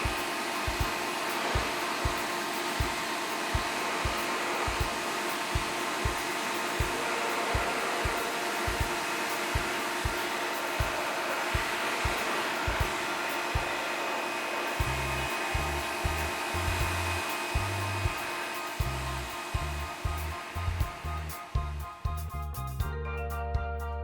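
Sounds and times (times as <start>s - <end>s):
pressure washer spraying: 0.0s - 21.6s.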